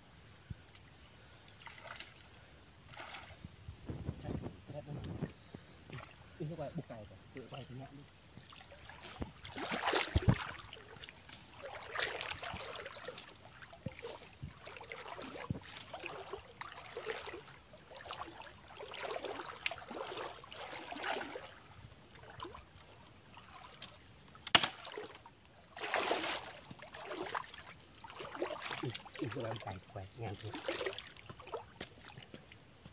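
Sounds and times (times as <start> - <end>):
water splashing while wading: 1.5 - 3.5, 5.9 - 6.2, 7.9 - 32.5.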